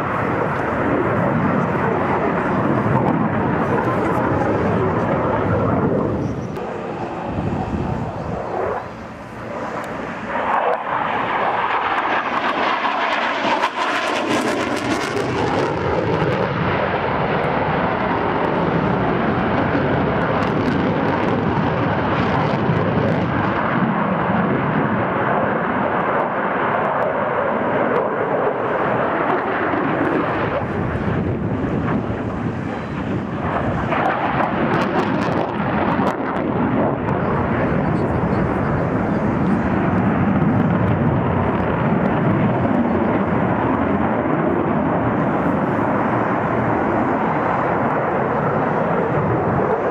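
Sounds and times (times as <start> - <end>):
fighter jet passing: 0.0 - 49.9.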